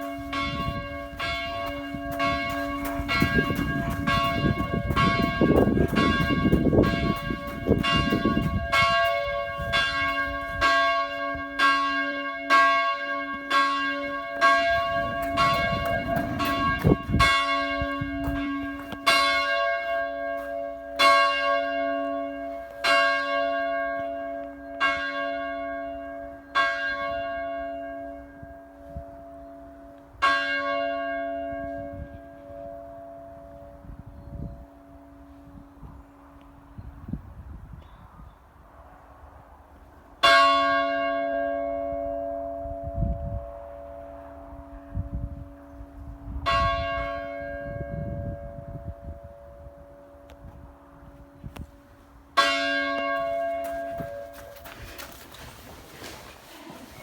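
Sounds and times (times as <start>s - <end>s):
church bell ringing: 0.0s - 35.6s, 40.2s - 50.4s, 52.3s - 54.7s.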